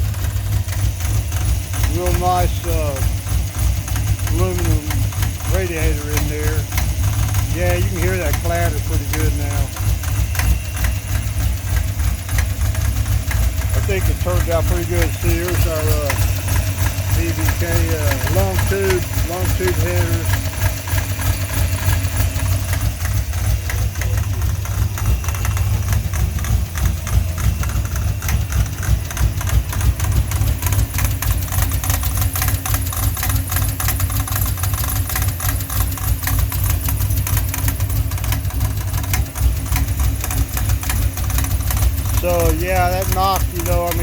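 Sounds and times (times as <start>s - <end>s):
engine idling: 0.0s - 44.0s
rapid pulley clatter: 0.0s - 44.0s.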